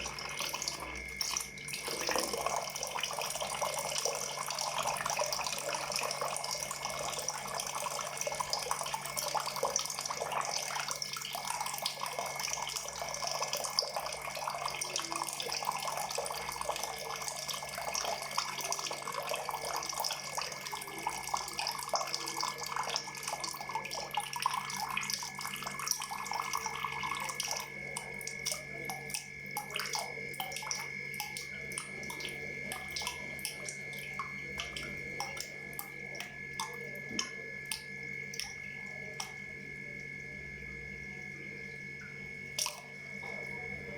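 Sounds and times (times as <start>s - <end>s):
water pouring and splashing: 0.0s - 39.5s, 42.5s - 43.6s
water dripping: 0.0s - 43.9s.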